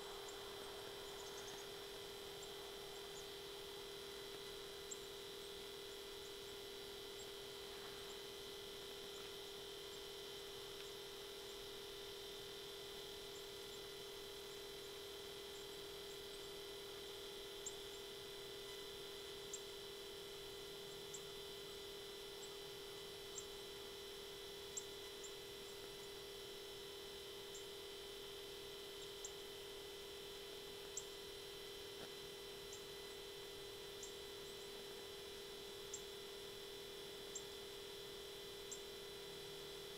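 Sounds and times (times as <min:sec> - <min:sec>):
two-tone electrical hum: 0:00.0 - 0:39.9.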